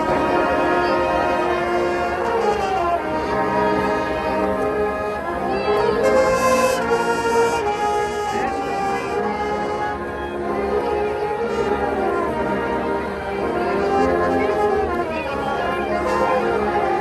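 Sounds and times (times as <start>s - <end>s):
brass ensemble playing: 0.0s - 17.0s.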